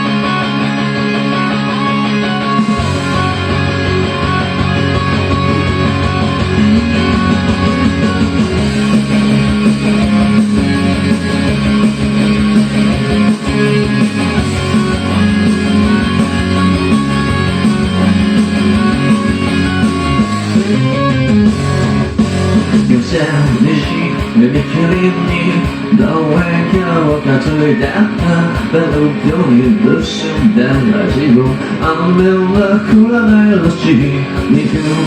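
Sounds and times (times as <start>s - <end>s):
electric guitar: 0.0s - 35.0s
rock song instrumental: 0.0s - 35.0s.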